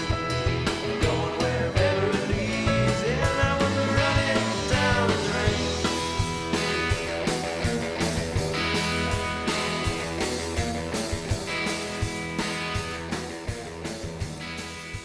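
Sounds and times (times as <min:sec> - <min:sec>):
bass guitar: 0:00.0 - 0:15.0
drums: 0:00.0 - 0:15.0
electric guitar: 0:00.0 - 0:15.0.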